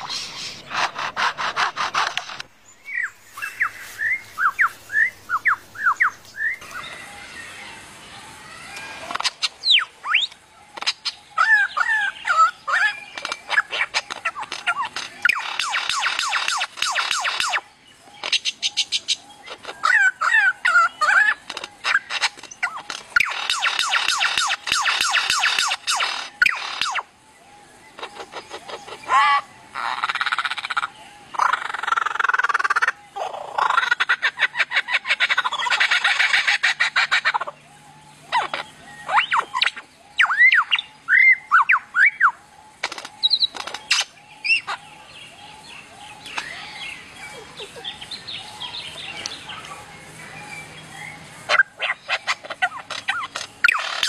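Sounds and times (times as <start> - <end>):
lyrebird singing: 0.0 - 54.0.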